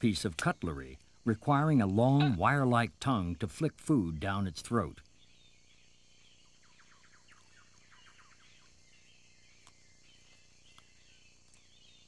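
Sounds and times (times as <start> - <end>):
faint bird chirps: 0.0 - 12.0
tape hiss: 0.0 - 12.0.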